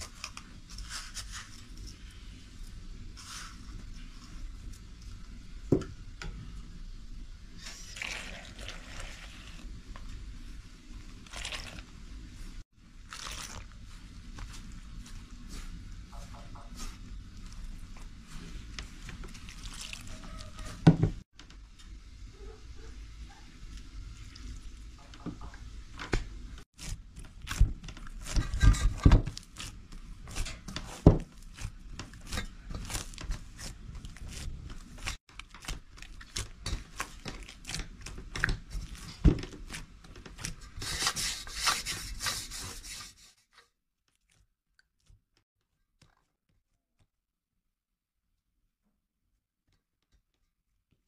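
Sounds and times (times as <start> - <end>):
hands kneading dough in a bowl: 0.0 - 6.7, 7.5 - 21.3, 26.6 - 47.3.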